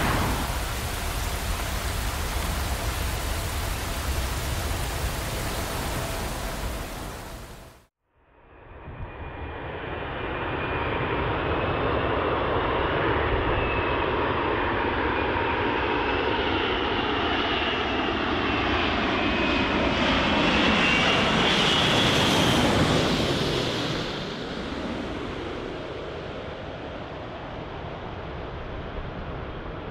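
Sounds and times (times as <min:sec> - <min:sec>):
jet engines roaring: 0:00.0 - 0:07.8, 0:09.5 - 0:29.9.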